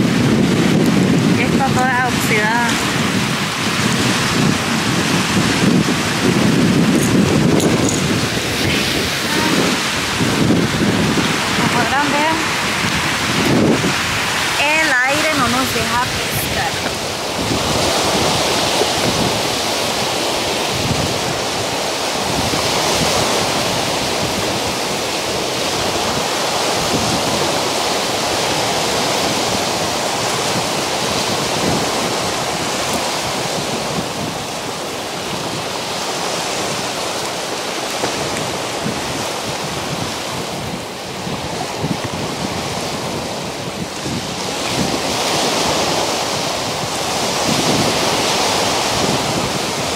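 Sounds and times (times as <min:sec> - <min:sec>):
waves breaking on rocky shore: 0:00.0 - 0:49.9
wind buffeting microphone: 0:00.0 - 0:49.9.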